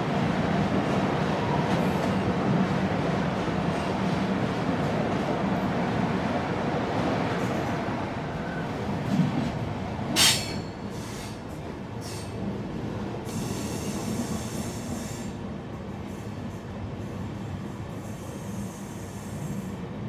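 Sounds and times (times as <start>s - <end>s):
train coaches rumbling: 0.0s - 20.0s.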